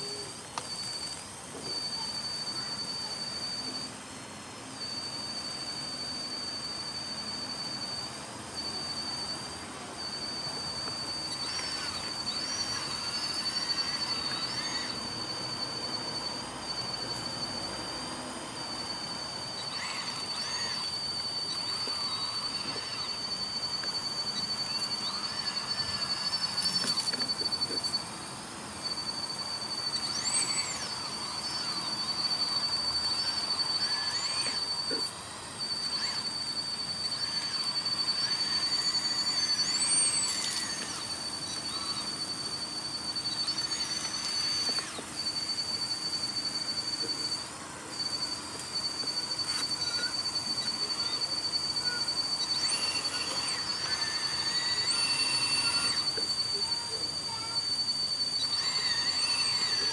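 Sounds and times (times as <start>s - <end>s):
high-pitched electric motor whine: 0.0s - 59.9s
rising and falling motor whines: 0.0s - 59.9s.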